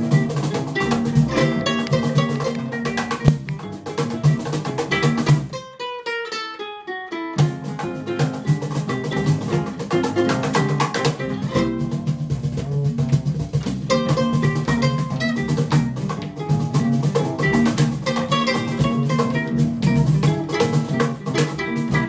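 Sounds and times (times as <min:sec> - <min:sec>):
cajon drumming: 0:00.0 - 0:05.6, 0:07.4 - 0:22.0
upright bass: 0:00.0 - 0:05.7, 0:07.4 - 0:22.0
ukulele: 0:00.0 - 0:22.0.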